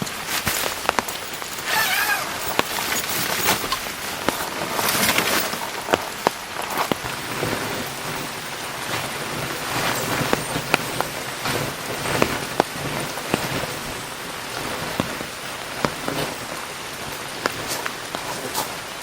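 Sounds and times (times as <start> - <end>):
heavy rain pouring: 0.0 - 19.0
raindrops tapping: 0.0 - 19.0.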